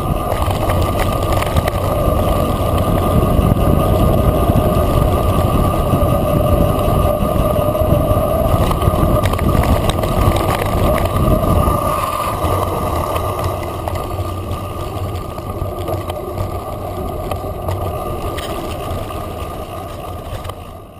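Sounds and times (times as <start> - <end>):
bike tyre noise: 0.0 - 20.9
wind on microphone: 0.0 - 20.9.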